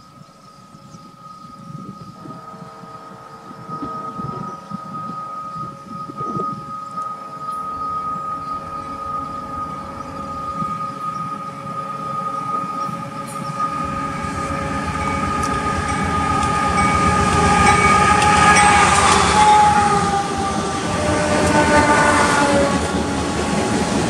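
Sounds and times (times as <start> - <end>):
diesel engines and wheels rumbling: 0.0 - 24.0
train air horn chord: 1.0 - 24.0.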